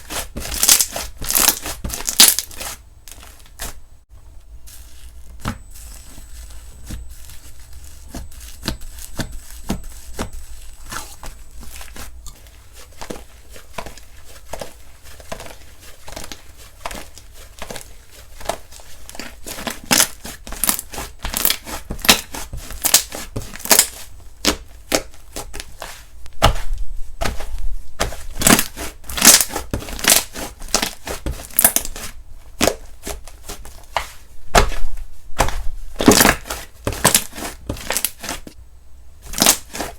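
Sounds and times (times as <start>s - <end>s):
slime squishing and crackling: 0.0s - 3.8s, 4.6s - 38.4s, 39.2s - 39.9s.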